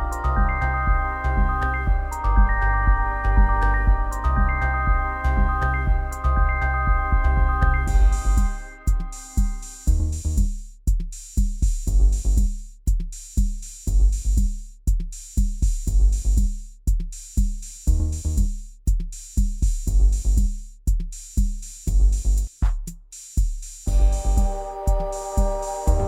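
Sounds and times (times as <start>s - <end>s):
kick drum and tom strikes: 0.0s - 26.0s.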